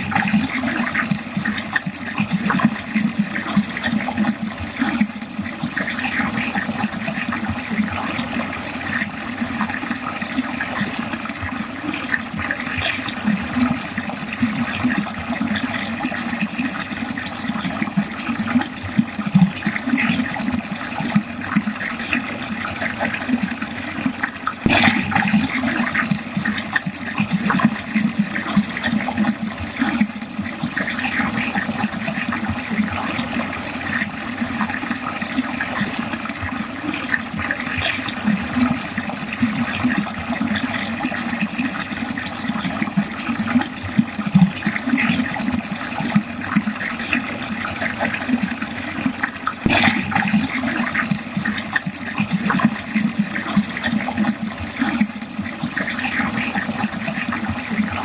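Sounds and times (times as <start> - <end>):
water gurgling down a drain: 0.0 - 58.0.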